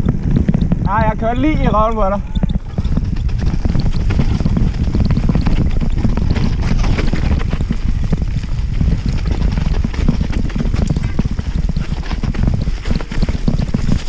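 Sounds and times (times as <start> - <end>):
bike rattling and clicking: 0.0 - 14.0
wind rumble on microphone: 0.0 - 14.0.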